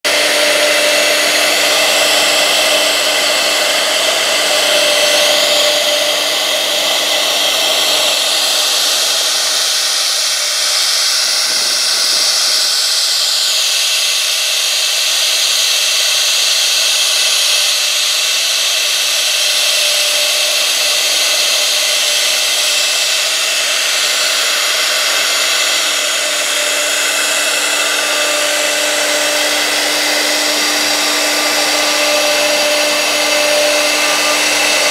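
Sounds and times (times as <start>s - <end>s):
hissing wood cutting noise: 0.0s - 34.9s
router spindle running: 0.0s - 34.9s.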